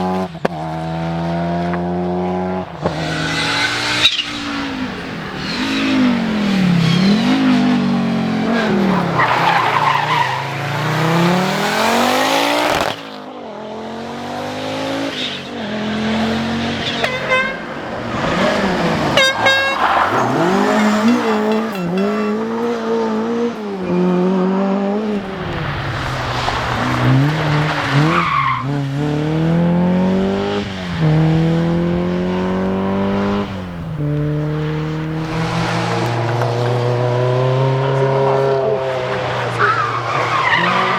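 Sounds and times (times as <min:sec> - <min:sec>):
rally car engines revving: 0:00.0 - 0:40.9.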